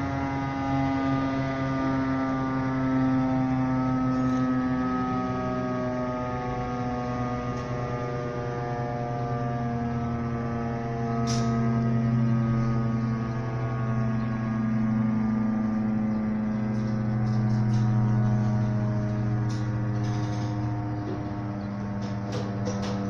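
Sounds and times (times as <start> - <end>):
fire siren wailing: 0.0 - 23.0.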